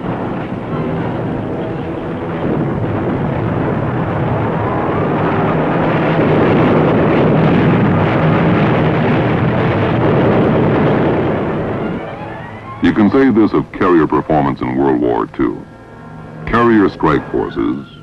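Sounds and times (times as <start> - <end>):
loud engine roar: 0.0 - 18.0.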